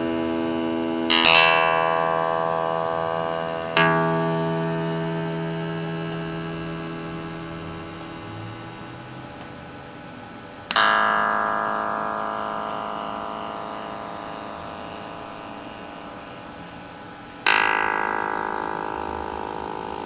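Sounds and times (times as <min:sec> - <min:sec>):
synthesized notes with overtones: 0:00.0 - 0:20.0.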